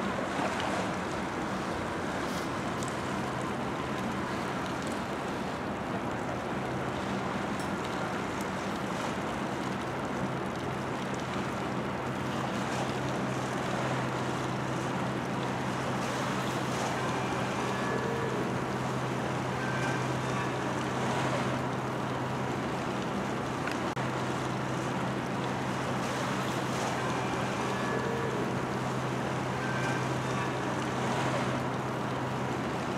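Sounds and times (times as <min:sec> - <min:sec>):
constant rushing noise: 0:00.0 - 0:32.9
low machinery hum: 0:00.0 - 0:32.9.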